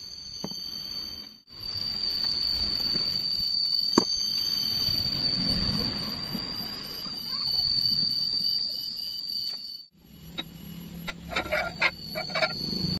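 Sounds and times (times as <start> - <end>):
high-pitched whine: 0.0 - 12.9.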